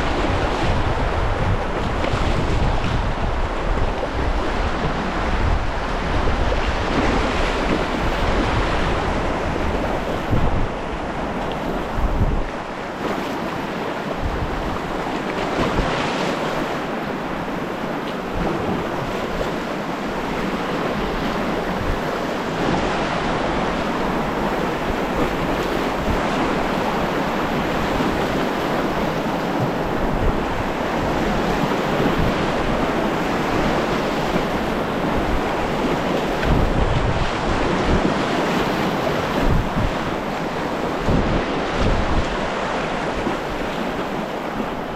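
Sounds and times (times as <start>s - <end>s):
river water rushing: 0.0s - 44.9s
wind rumbling on microphone: 0.0s - 44.9s.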